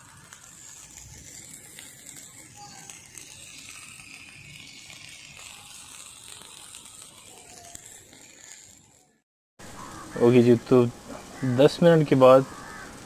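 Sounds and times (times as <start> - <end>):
chicken sizzling on grill: 0.0 - 13.0
small crackles: 0.0 - 13.0.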